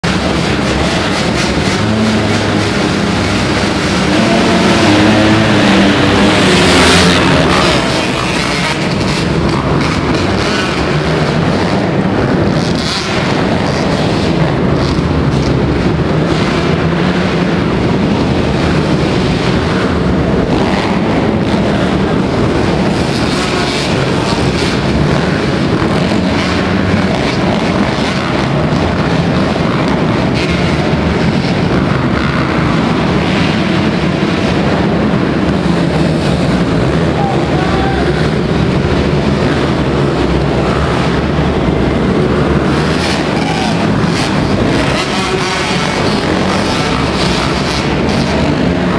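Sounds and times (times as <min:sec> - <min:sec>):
motocross motorcycle engine: 0:00.0 - 0:48.9
wind noise on microphone: 0:00.0 - 0:48.9.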